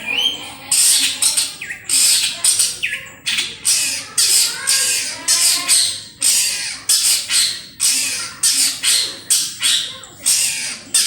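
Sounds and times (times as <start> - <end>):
bird harsh rasping calls: 0.0 - 11.0.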